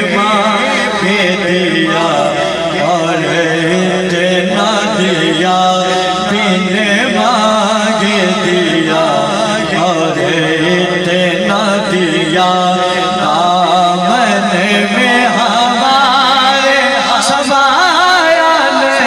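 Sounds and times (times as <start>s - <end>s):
man singing through a microphone: 0.0s - 19.0s.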